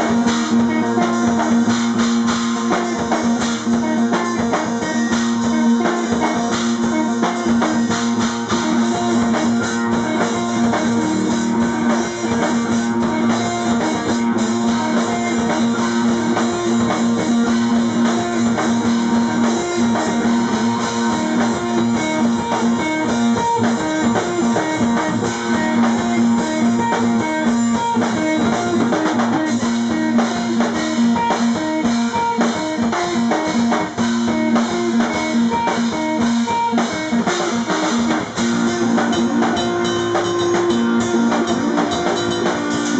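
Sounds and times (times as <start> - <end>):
drum kit drumming: 0.0 - 42.9
guitar repeating a figure: 0.0 - 42.9.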